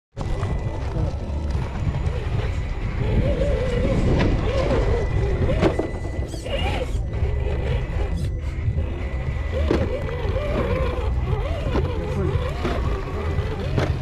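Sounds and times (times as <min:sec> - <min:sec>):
electric motor and gearbox whining: 0:00.2 - 0:14.0.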